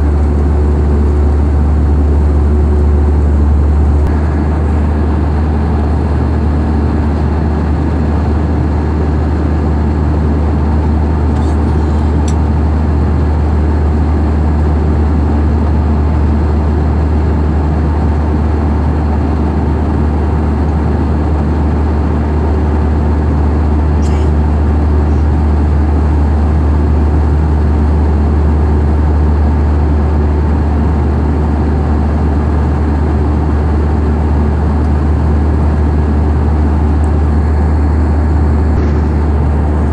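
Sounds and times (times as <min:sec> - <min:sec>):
low mechanical drone: 0:00.0 - 0:39.9.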